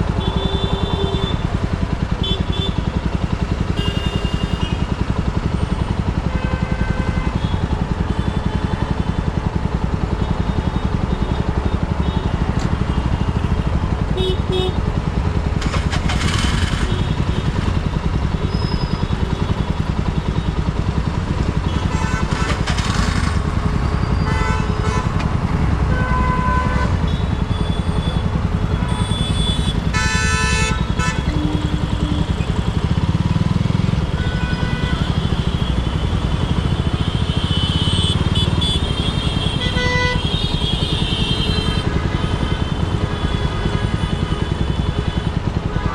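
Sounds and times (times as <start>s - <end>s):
motorcycle engine running: 0.0s - 45.9s
street noise: 0.0s - 45.9s.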